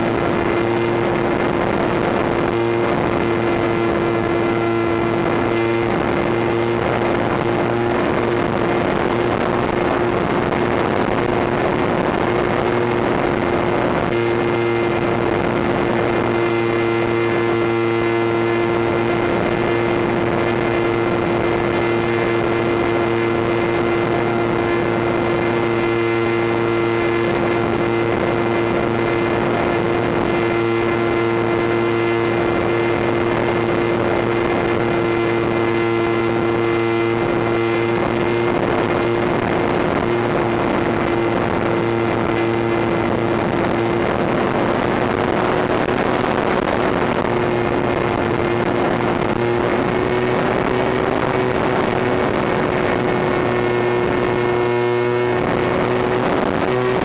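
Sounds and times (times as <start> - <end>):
electric motor droning whine: 0.0 - 57.0.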